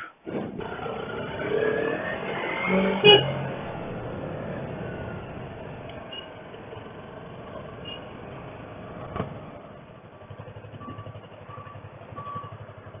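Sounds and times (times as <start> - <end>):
motorcycle engine low revs: 0.2 - 13.0.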